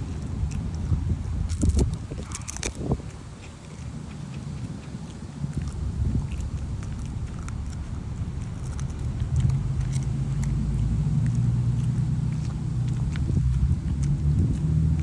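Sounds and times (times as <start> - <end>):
low rumble: 0.0 - 3.1, 5.3 - 15.0
dog chewing crunchy treat: 0.0 - 15.0.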